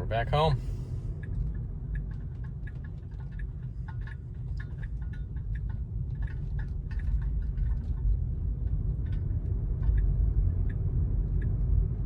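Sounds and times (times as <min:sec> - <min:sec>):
car rolling rumble: 0:00.0 - 0:12.0
turn signal ticking: 0:01.1 - 0:12.0.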